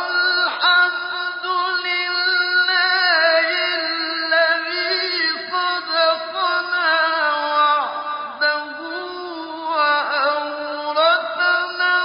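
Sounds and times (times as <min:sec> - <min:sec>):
man reciting melodic chant: 0:00.0 - 0:12.0.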